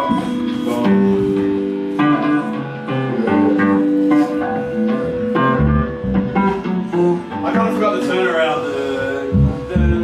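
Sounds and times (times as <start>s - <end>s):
guitar notes and chords: 0.0s - 10.0s.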